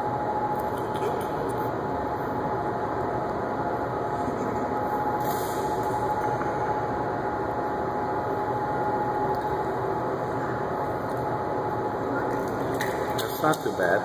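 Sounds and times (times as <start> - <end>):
droning machinery hum: 0.0 - 14.0.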